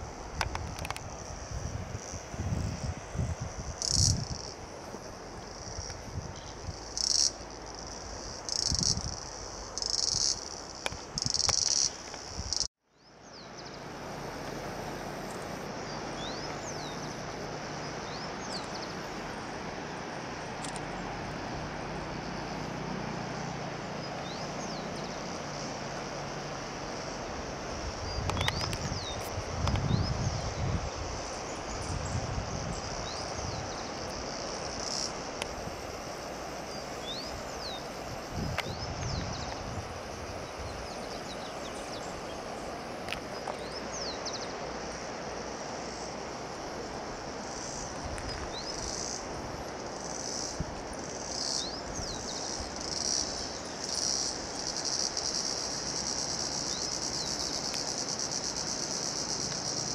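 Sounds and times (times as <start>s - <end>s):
insect drone: 0.0s - 59.9s
insects buzzing in pulses: 0.0s - 59.9s.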